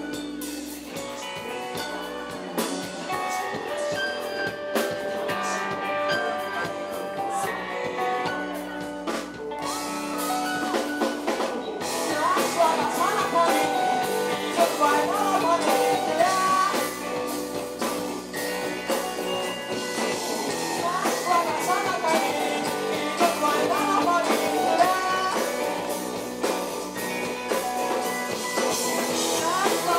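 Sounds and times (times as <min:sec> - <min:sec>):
person singing: 0:00.0 - 0:29.9
rock guitar and drums: 0:00.0 - 0:29.9.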